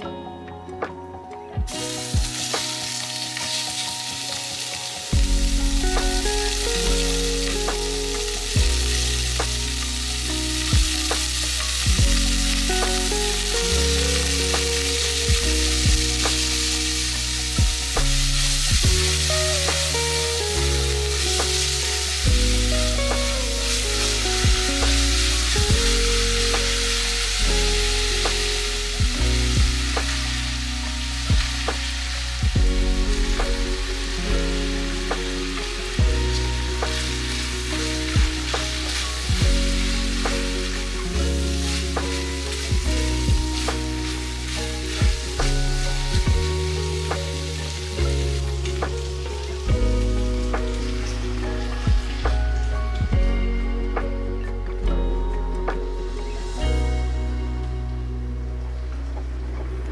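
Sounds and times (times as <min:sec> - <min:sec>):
background music with bass: 0:00.0 - 0:59.9
food sizzling in a pan: 0:01.7 - 0:56.8.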